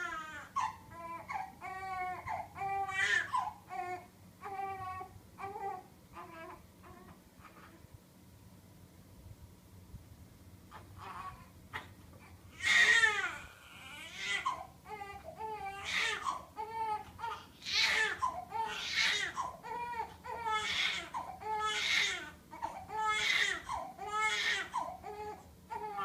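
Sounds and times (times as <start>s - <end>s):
baby crying: 0.0s - 7.8s, 10.7s - 11.5s, 12.5s - 26.0s.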